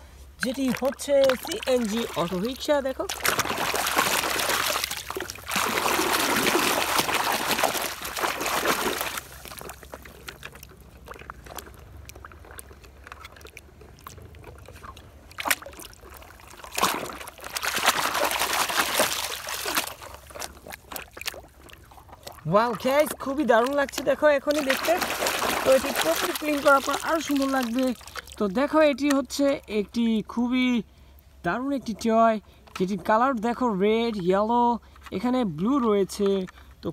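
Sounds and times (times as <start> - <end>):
water sloshing and splashing: 0.0 - 30.0, 31.9 - 36.9.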